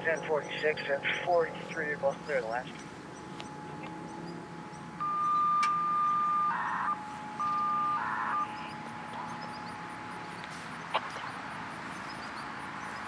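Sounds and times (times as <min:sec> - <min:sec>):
radio signalling tones: 0:00.0 - 0:10.5.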